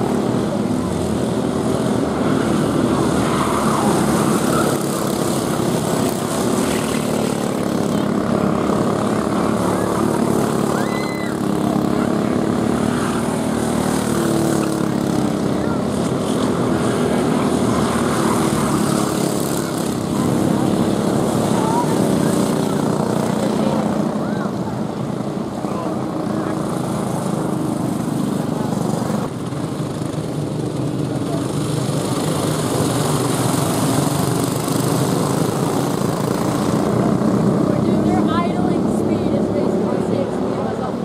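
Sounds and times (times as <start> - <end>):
go-kart engines droning: 0.0 - 41.0.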